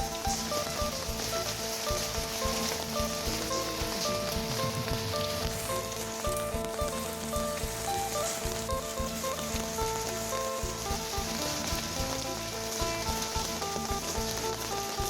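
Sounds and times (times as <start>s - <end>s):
heavy rain hissing: 0.0s - 15.0s
simple background melody: 0.0s - 15.0s.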